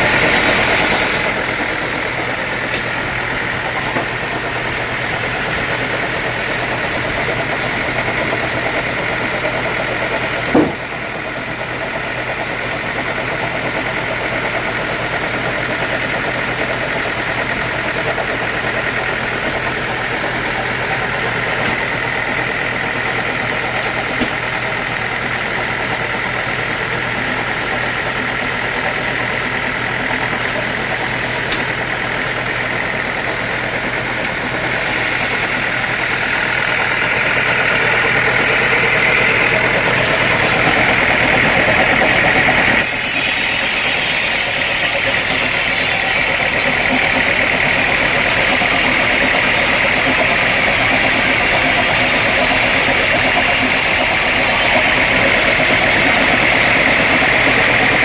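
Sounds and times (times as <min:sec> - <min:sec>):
high machine whine: 0:00.0 - 0:58.0
sawmill machinery drone: 0:00.0 - 0:58.0.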